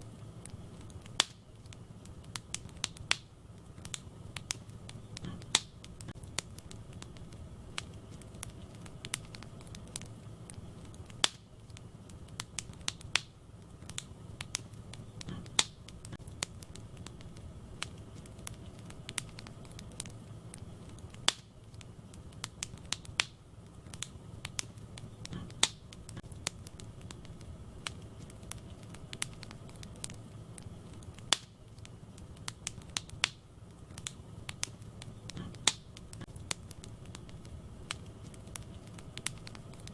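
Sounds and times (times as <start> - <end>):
low rumble of burning: 0.0 - 39.9
wood fire crackling and popping: 0.0 - 39.9.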